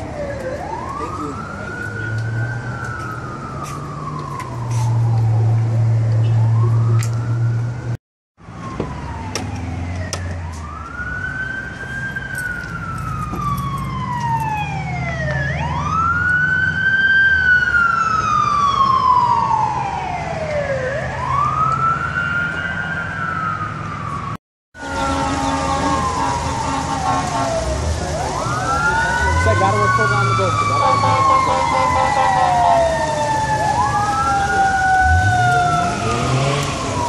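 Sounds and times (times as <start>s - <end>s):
emergency siren wailing: 0.0s - 37.0s
low traffic rumble: 0.0s - 37.0s.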